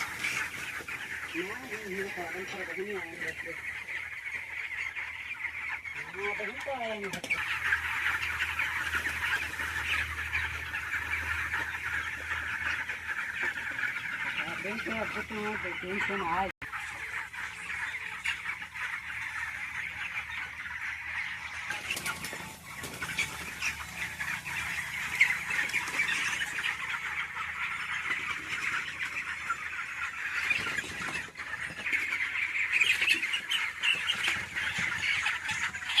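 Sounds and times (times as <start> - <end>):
chickens cheeping and squawking: 0.0 - 36.0.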